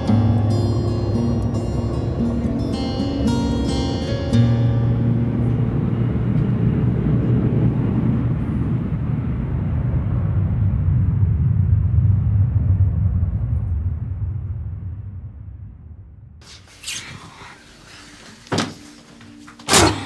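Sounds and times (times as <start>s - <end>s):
metro train rumbling: 0.0s - 16.5s.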